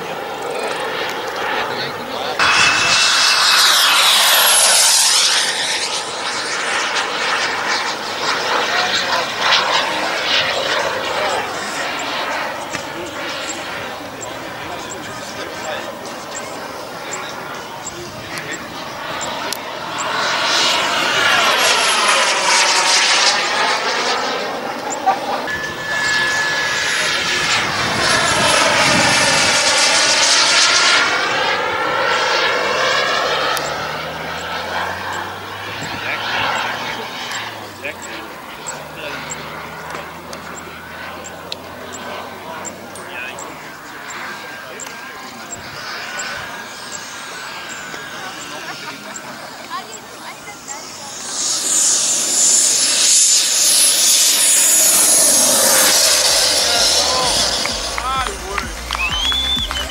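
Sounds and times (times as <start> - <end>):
model jet turbine whine: 0.0 - 59.9.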